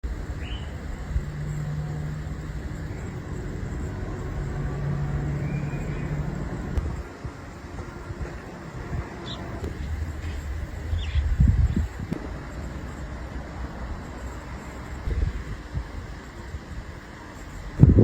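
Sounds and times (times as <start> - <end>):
motor rumble with hum: 0.0 - 18.0.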